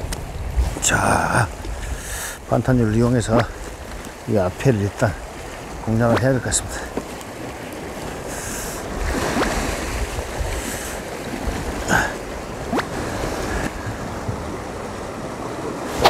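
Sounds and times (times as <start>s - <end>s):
surf breaking on rocks: 0.0s - 16.0s
wind buffeting microphone: 0.0s - 16.0s.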